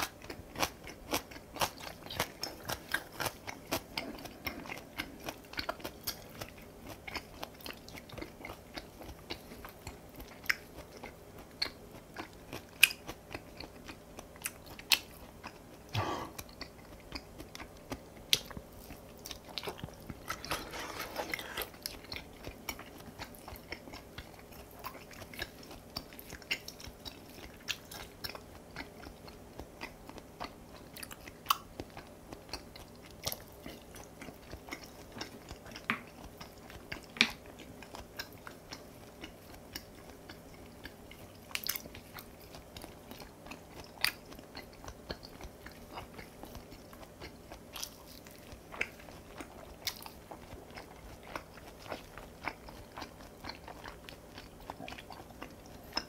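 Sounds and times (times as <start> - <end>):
person chewing with crunches: 0.0 - 56.0.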